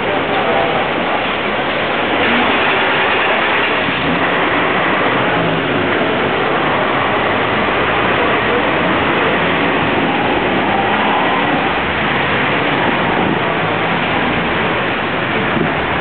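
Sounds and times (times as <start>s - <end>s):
bus engine running: 0.0s - 16.0s
car engines: 0.0s - 16.0s.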